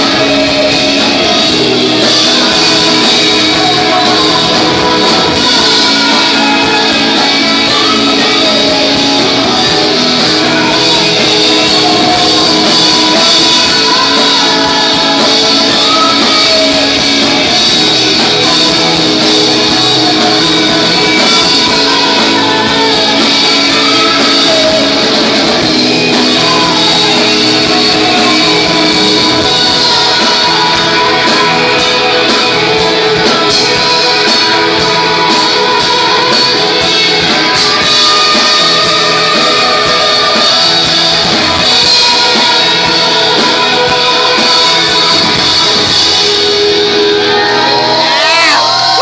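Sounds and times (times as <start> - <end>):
drum kit: 0.0 - 49.0
electric guitars: 0.0 - 49.0
person singing: 0.0 - 49.0.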